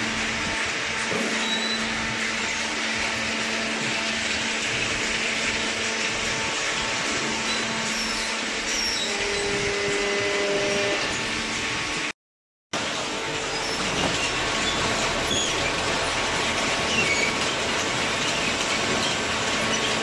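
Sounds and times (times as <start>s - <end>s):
machine hum drone: 0.0s - 12.1s, 12.8s - 20.0s.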